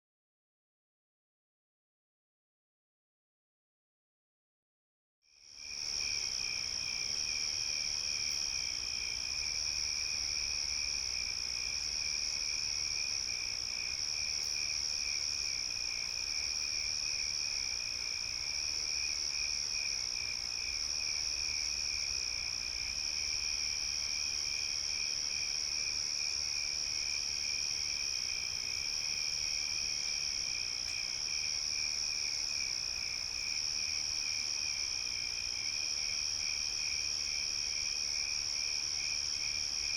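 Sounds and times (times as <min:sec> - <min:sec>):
low pulsing insect trill: 0:05.3 - 0:39.9.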